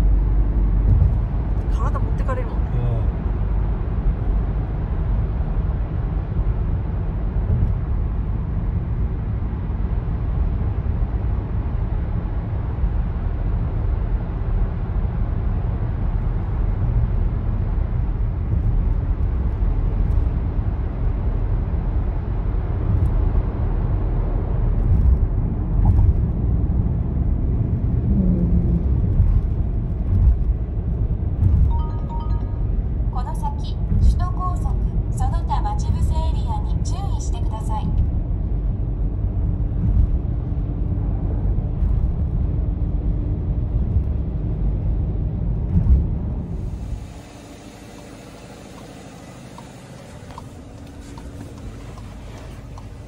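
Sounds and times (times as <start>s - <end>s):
car cabin road noise: 0.0s - 53.0s.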